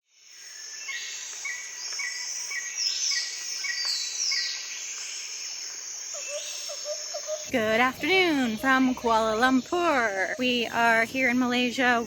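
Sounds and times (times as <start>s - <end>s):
high insect drone: 0.1s - 12.0s.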